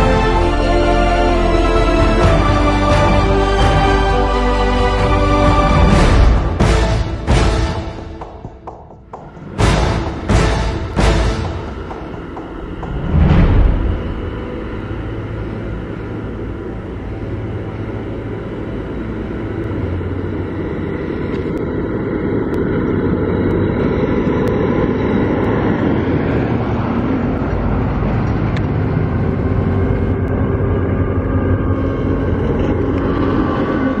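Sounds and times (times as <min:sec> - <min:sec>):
diesel engine hum: 0:00.0 - 0:34.0.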